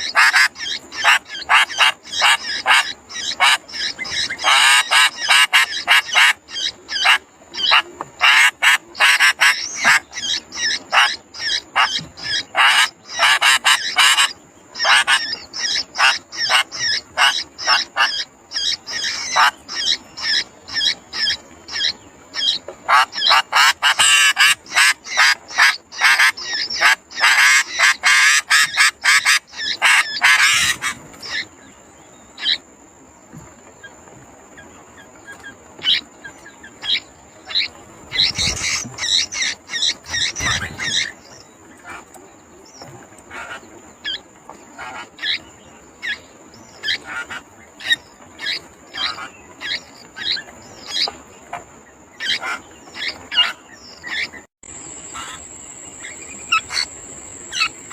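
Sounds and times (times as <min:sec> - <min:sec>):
birds chirping: 0:00.0 - 0:57.9
high insect whine: 0:00.0 - 0:57.9.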